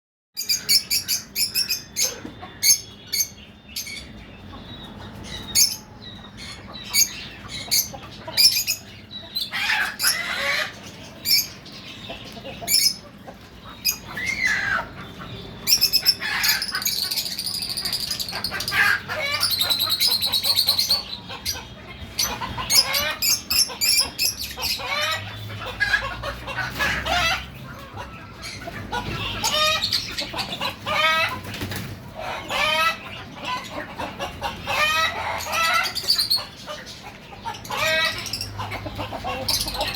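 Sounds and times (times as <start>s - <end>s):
lovebirds chattering: 0.4s - 39.9s.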